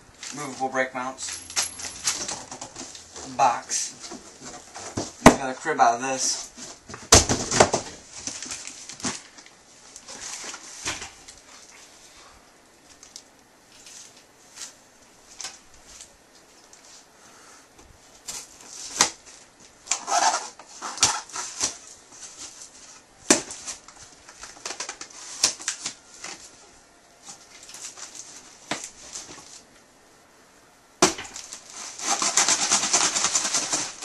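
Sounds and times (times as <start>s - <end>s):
packaging crinkling and rustling: 0.1s - 5.6s, 6.2s - 12.0s, 12.8s - 17.1s, 18.1s - 29.7s, 31.1s - 34.0s.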